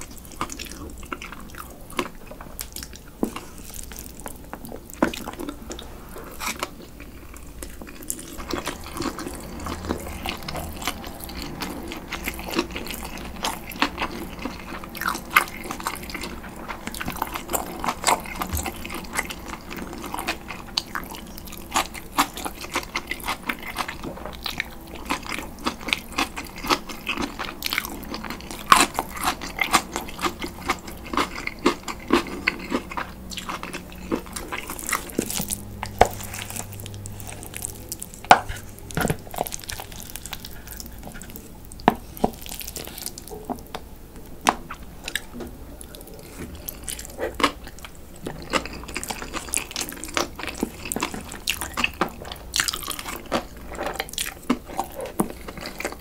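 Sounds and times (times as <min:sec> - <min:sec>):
chewing with wet mouth clicks: 0:06.4 - 0:56.0.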